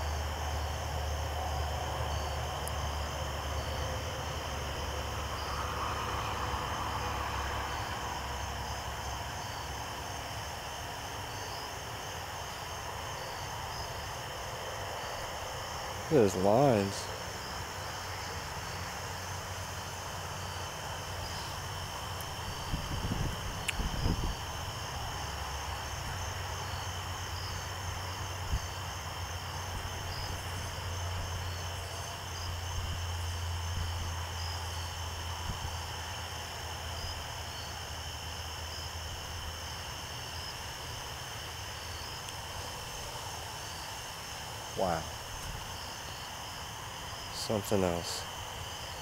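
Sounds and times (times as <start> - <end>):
insects chirping: 0.0 - 49.0.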